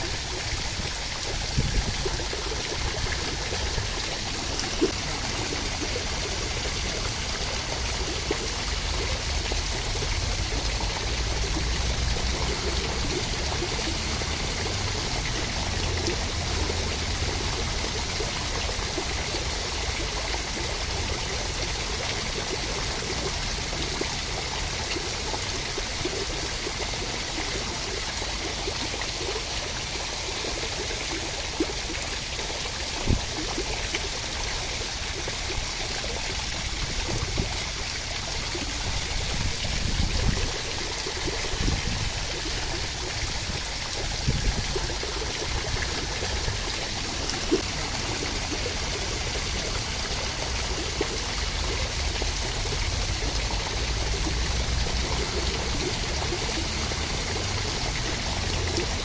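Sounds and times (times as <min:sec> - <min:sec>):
steady rain hiss: 0:00.0 - 0:24.1, 0:26.0 - 0:59.0.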